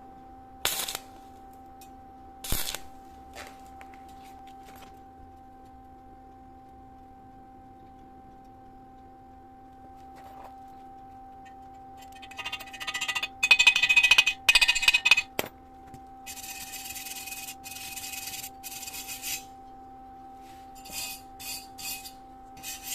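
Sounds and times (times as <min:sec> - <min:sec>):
steady electrical hum: 0:00.0 - 0:22.9.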